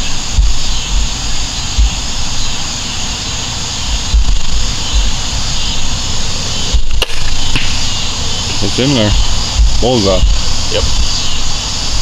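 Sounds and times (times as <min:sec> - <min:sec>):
low thumps: 0:00.0 - 0:12.0
outdoor background rumble: 0:00.0 - 0:12.0.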